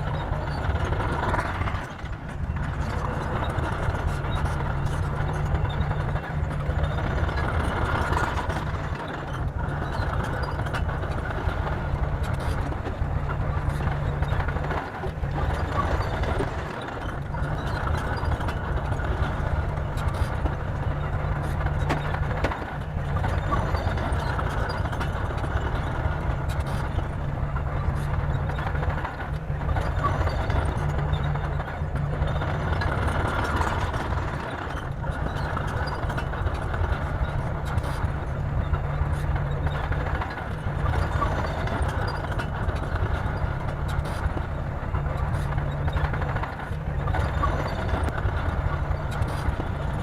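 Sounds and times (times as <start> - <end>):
bulldozer diesel engine rumbling: 0.0 - 50.0.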